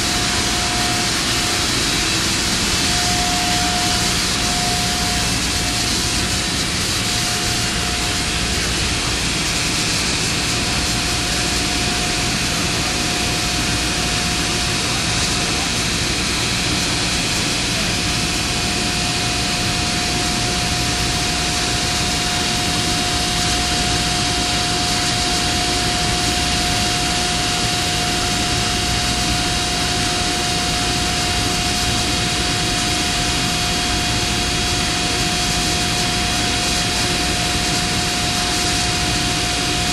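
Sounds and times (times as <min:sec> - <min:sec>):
industrial fan rushing: 0:00.0 - 0:39.9.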